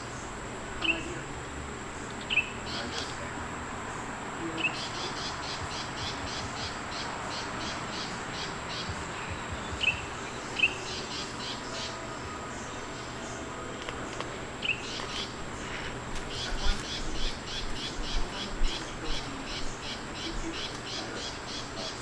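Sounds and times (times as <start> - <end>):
insect trilling: 0.0 - 22.0
sharp bird-like chirps: 2.0 - 3.3, 4.4 - 13.7, 14.6 - 22.0.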